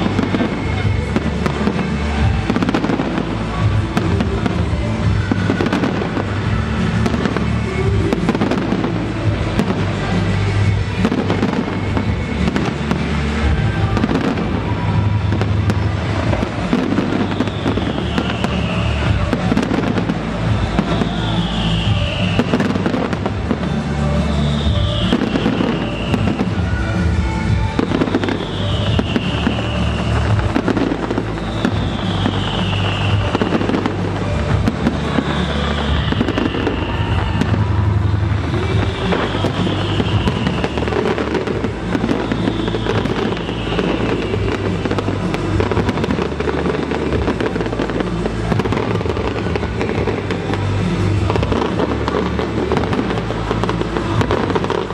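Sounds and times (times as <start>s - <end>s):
bass-heavy music: 0.0s - 54.9s
fireworks bursting and crackling: 0.0s - 54.9s.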